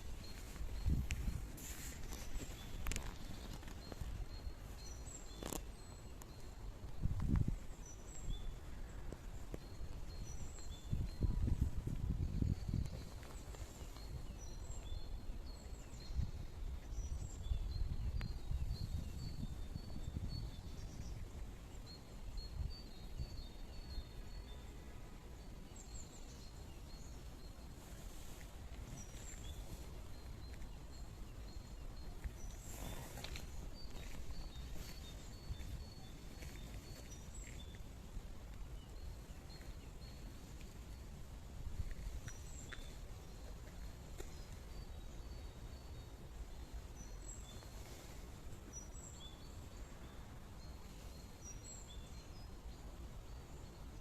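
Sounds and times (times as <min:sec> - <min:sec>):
rustle: 0:00.0 - 0:54.0
small birds chirping: 0:00.0 - 0:54.0.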